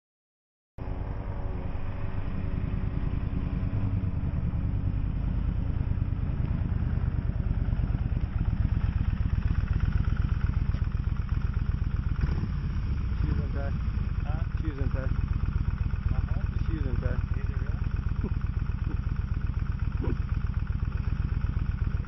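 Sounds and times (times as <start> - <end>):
motorcycle engine running: 0.8 - 22.0.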